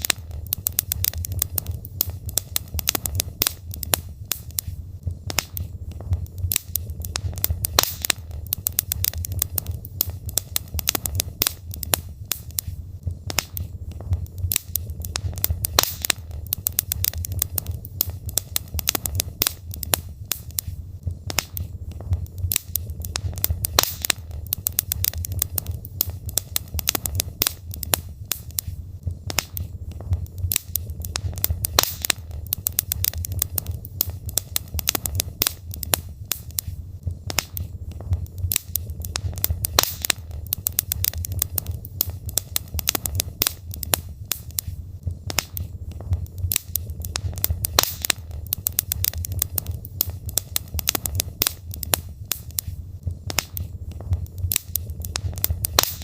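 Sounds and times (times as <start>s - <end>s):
logs crackling and popping: 0.0s - 56.0s
low rumble of fire: 0.0s - 56.0s.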